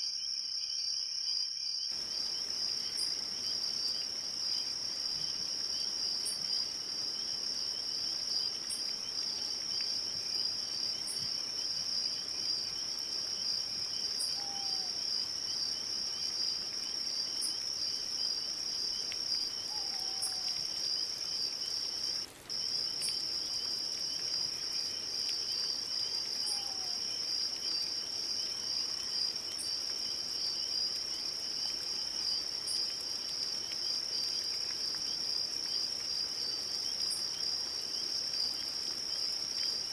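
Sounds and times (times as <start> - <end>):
crickets chirring: 0.2 - 39.9.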